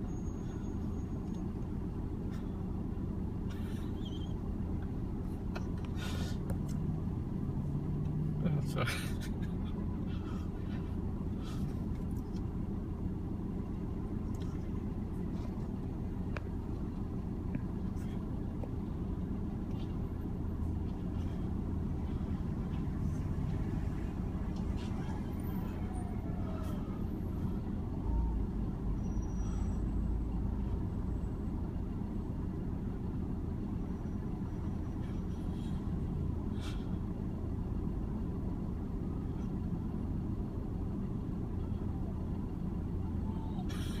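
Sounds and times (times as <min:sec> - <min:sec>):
road traffic rumble: 0:00.0 - 0:44.0.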